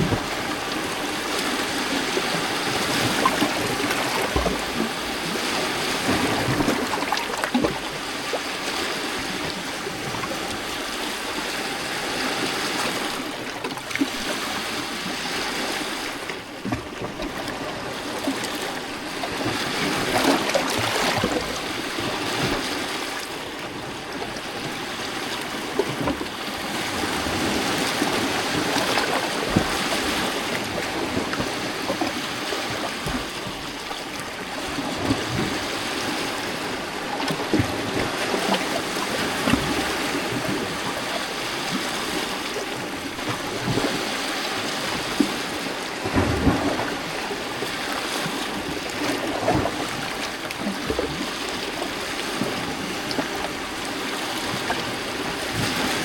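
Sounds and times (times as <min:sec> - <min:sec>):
waves lapping against rocks: 0:00.0 - 0:56.0.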